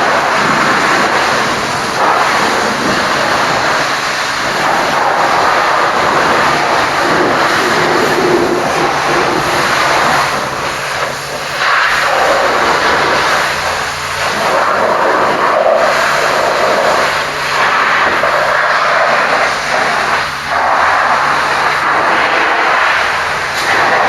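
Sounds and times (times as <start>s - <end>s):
pressure washer spraying water: 0.0s - 24.0s
steady low hum: 0.0s - 24.0s.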